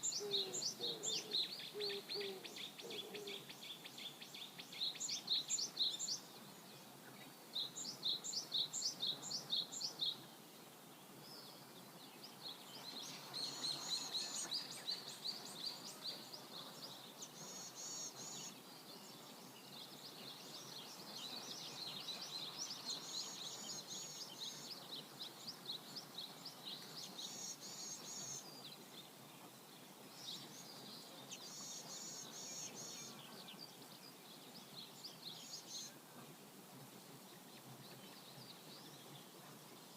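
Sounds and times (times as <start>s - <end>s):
songbirds singing: 0.0s - 36.5s, 37.2s - 39.9s
flowing river water: 3.4s - 39.9s.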